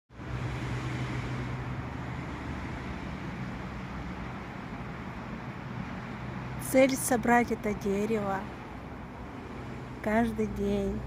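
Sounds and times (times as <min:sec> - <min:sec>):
constant low hum: 0:00.1 - 0:11.0.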